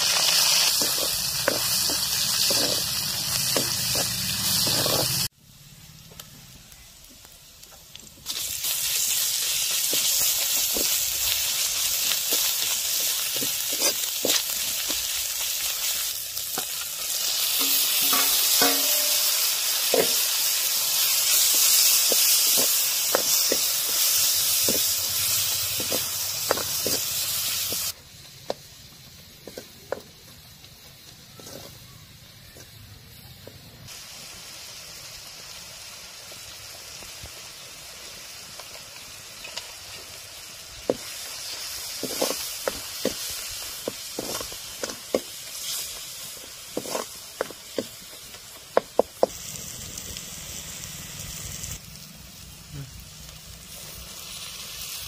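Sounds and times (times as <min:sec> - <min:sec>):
onions and spices sizzling in oil: 0:00.0 - 0:55.0.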